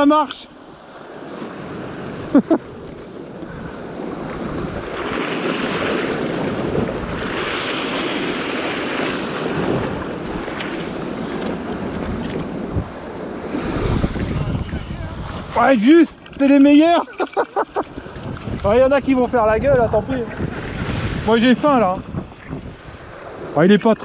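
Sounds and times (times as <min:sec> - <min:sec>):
waves washing against rocks: 0:00.7 - 0:24.0
wind buffeting microphone: 0:01.1 - 0:23.6.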